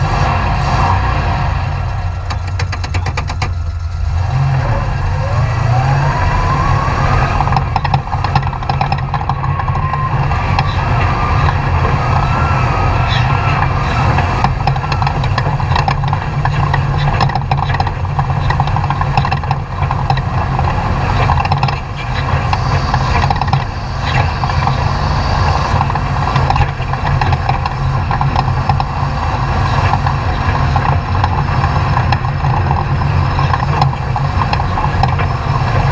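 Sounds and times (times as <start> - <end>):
truck engine revving: 0.0 - 35.9.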